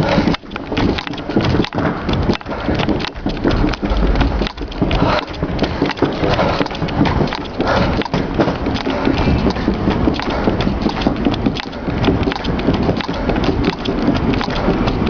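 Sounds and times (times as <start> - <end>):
running footsteps on hard floor: 0.0 - 15.0.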